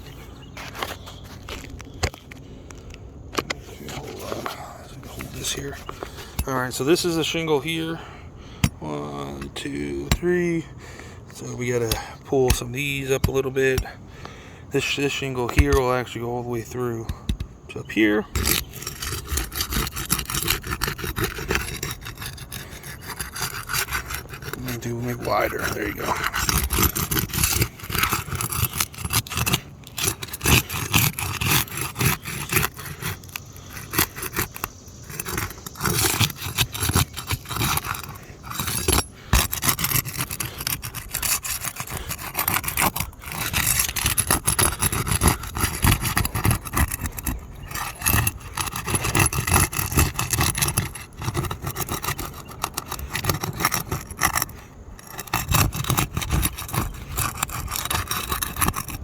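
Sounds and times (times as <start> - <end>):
roof shingles scraping: 0.0 - 8.1, 18.2 - 59.0.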